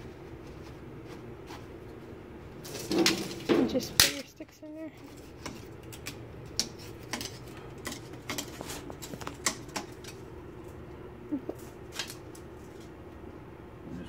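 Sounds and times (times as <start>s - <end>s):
kindling fire crackling: 0.0s - 4.4s, 5.0s - 13.4s.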